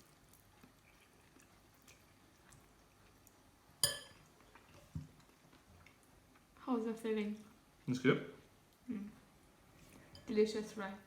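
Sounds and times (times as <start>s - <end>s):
quiet eating sounds: 0.0s - 11.0s.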